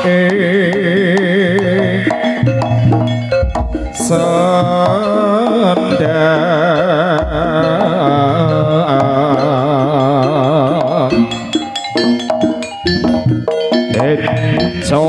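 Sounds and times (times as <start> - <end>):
drums and struck percussion: 0.0 - 15.0
ornamented lead melody: 0.0 - 15.0.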